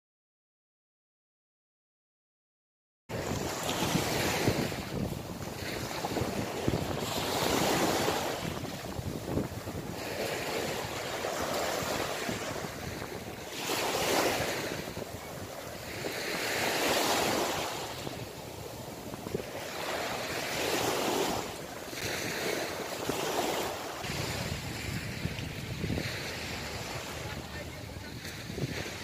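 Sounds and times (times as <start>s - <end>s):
waves washing onto sand: 3.1s - 29.0s
wind on microphone: 3.1s - 29.0s.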